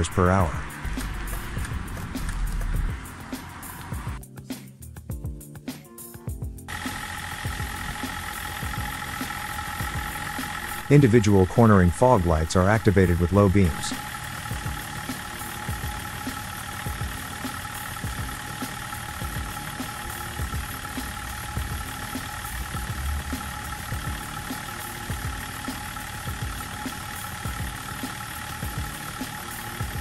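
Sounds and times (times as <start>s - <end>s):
car engine idling: 0.0s - 4.2s, 6.7s - 30.0s.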